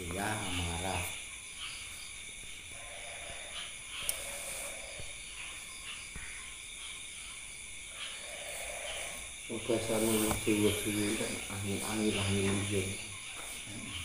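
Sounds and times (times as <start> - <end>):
night insects droning: 0.0 - 14.0.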